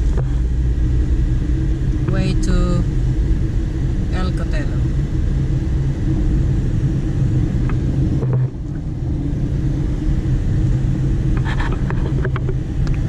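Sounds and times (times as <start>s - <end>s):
car interior hum: 0.0s - 13.0s
car road noise rumble: 0.0s - 13.0s.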